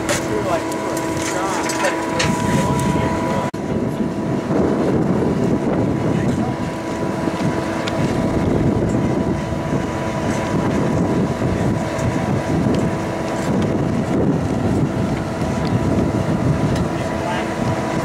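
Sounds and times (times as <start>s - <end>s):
blower motor hum: 0.0s - 18.0s
furnace roaring: 0.0s - 18.0s
wind buffeting microphone: 0.0s - 18.0s.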